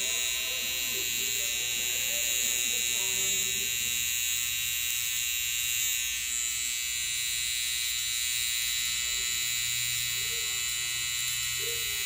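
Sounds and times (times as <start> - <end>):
hair trimmer buzzing: 0.0 - 12.0.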